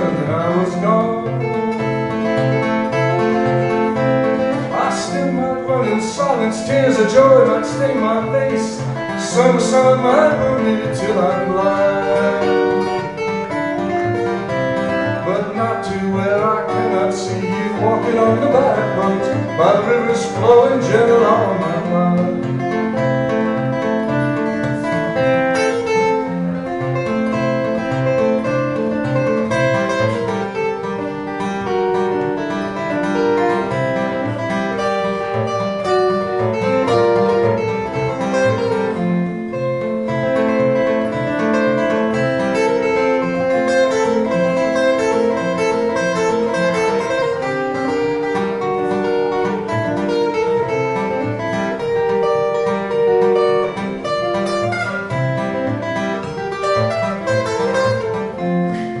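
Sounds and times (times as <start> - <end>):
acoustic guitar: 0.0 - 59.0.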